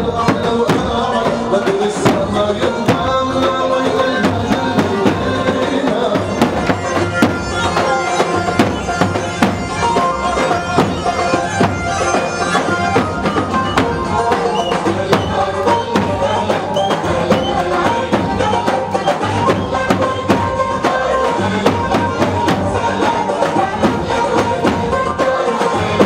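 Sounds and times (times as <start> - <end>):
large drums struck with sticks: 0.0 - 26.0
saxophone melody: 3.0 - 26.0.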